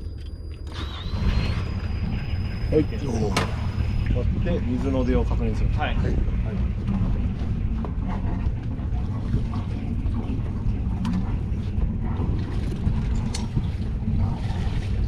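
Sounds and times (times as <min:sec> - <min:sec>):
boat engine idling: 0:00.8 - 0:15.0.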